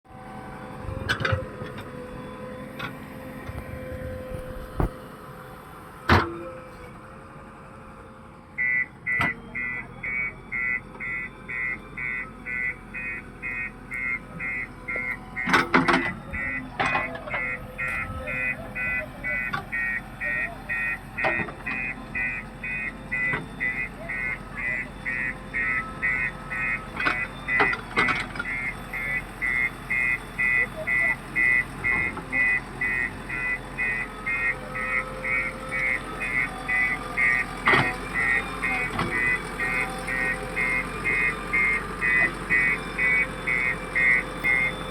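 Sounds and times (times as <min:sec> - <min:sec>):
reversing alarm beeping: 0:08.6 - 0:44.9.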